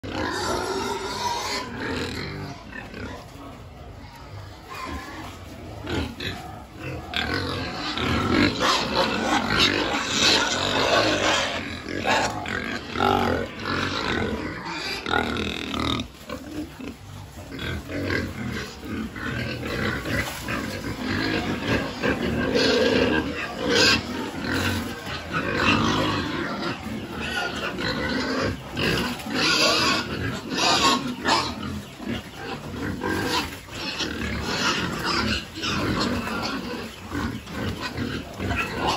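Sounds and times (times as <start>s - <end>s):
pigs grunting and oinking: 0.0s - 38.9s.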